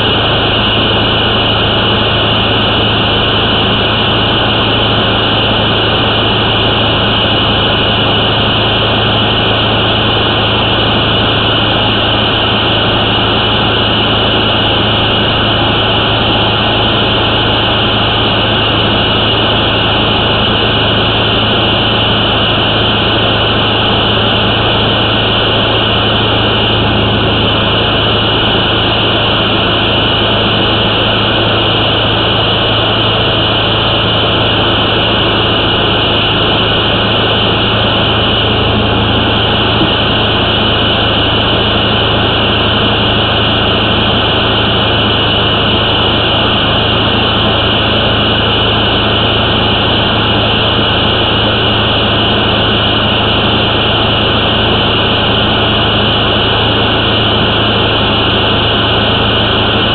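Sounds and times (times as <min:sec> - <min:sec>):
machine drone: 0:00.0 - 0:59.9.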